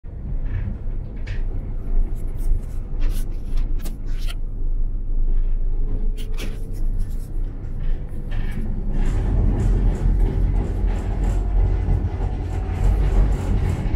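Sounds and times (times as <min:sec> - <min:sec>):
tram running gear rumble: 0:00.1 - 0:13.9.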